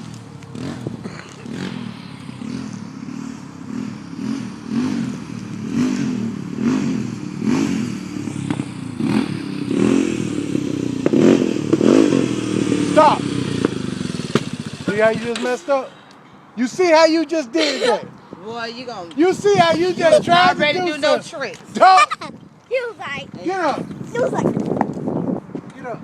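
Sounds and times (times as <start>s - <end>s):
atv engine revving: 0.0s - 16.1s, 19.1s - 24.7s.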